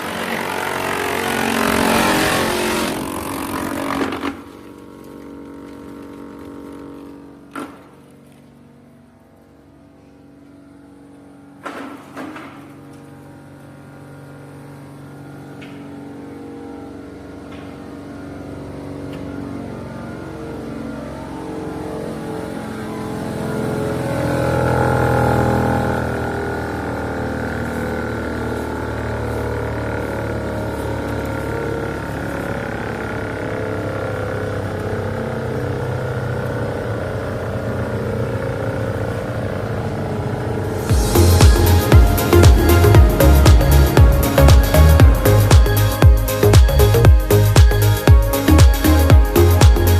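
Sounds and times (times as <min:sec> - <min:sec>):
wood chipper running: 0:00.0 - 0:49.9.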